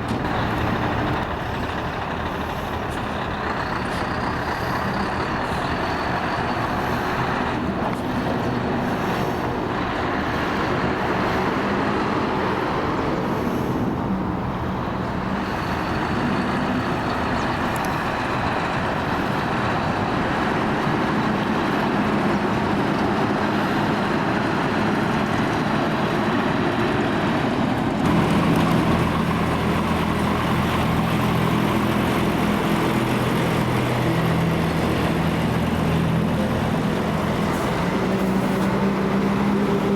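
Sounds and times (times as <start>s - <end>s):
diesel lorry engines running: 0.0s - 39.9s
passing traffic: 0.0s - 39.9s.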